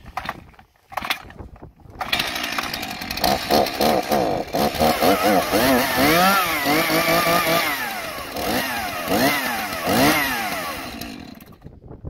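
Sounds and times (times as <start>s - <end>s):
chainsaw engine revving: 0.1s - 1.3s, 1.9s - 11.7s.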